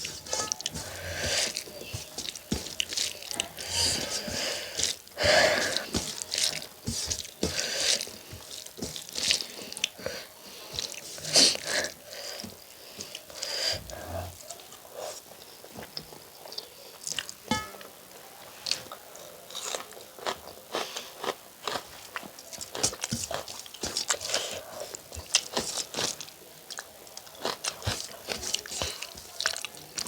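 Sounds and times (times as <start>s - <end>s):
person chewing and smacking: 0.0s - 13.4s, 15.7s - 17.9s, 18.8s - 30.0s.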